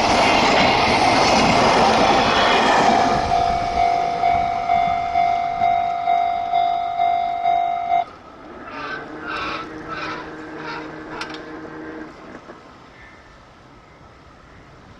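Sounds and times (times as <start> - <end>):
level-crossing warning bell: 0.0 - 12.2.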